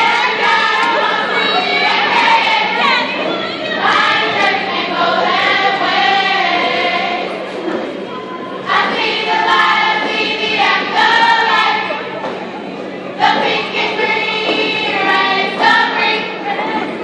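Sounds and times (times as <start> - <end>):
women singing in unison: 0.0 - 7.4, 8.6 - 12.0, 13.2 - 17.0.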